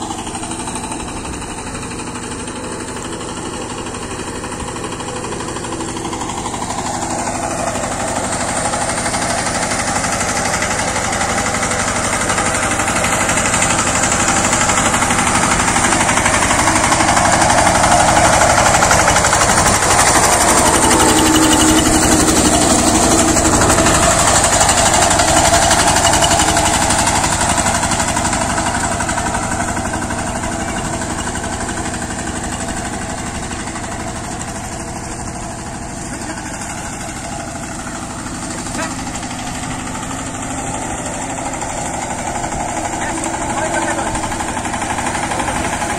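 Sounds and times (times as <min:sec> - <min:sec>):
power tiller engine rattling: 0:00.0 - 0:45.9.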